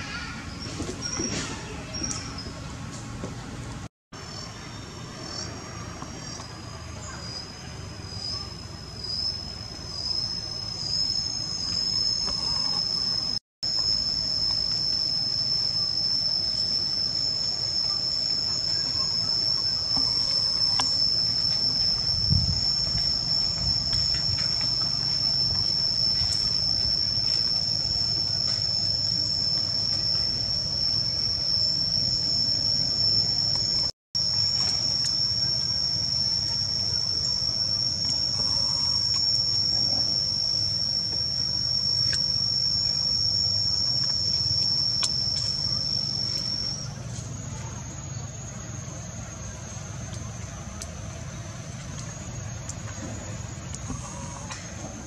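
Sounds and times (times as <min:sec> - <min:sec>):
insects droning: 0:00.0 - 0:03.5, 0:04.2 - 0:55.0.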